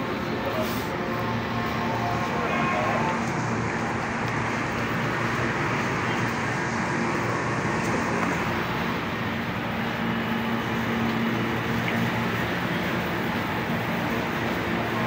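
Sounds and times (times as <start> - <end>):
constant low hum: 0.0 - 15.0
road traffic noise: 0.0 - 15.0.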